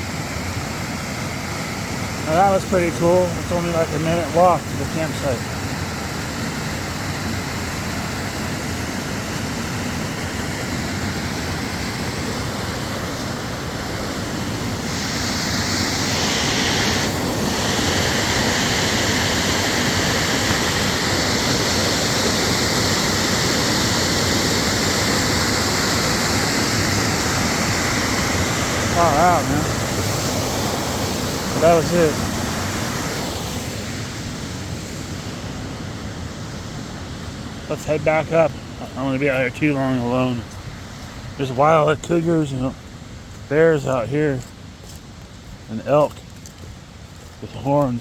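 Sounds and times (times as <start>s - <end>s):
waterfall rushing: 0.0s - 46.4s.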